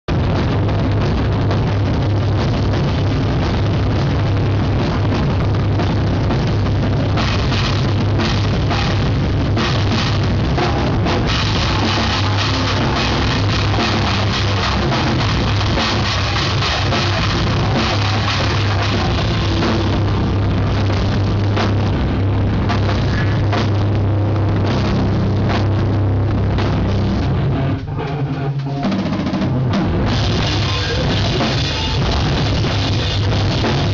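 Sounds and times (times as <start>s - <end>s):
drum kit with cymbals: 0.1s - 33.9s
live rock band playing: 0.1s - 33.9s.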